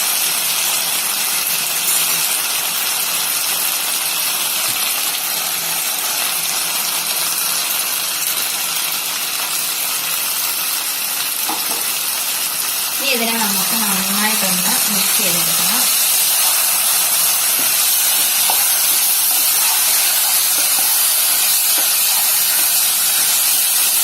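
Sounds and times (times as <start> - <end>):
chicken sizzling in a pan: 0.0 - 24.0.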